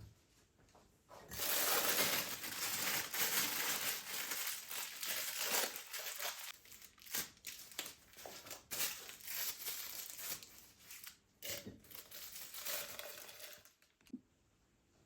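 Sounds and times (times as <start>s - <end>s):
packaging crinkling and rustling: 1.3s - 11.2s, 11.8s - 14.1s.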